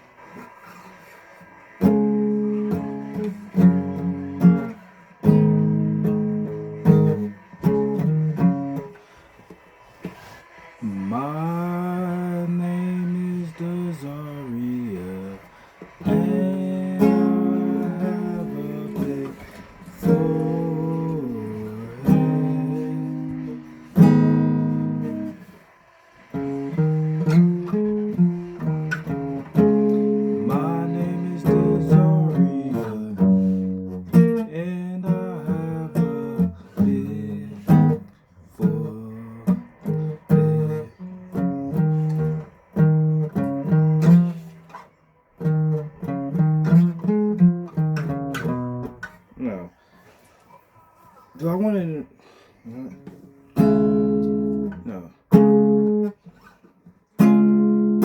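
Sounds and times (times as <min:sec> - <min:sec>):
acoustic guitar chords strummed: 0:00.0 - 0:49.7, 0:52.7 - 0:58.0.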